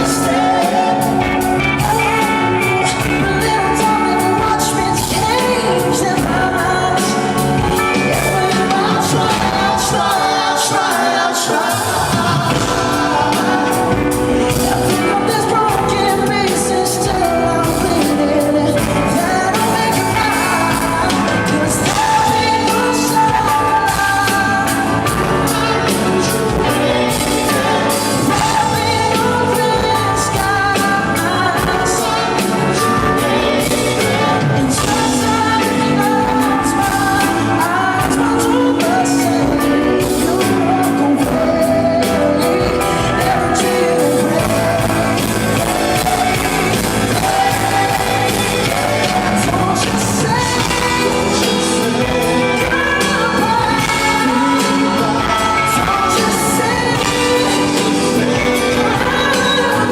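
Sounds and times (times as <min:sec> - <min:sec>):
lead singer singing: 0:00.0 - 0:59.9
live band playing pop ballad: 0:00.0 - 0:59.9.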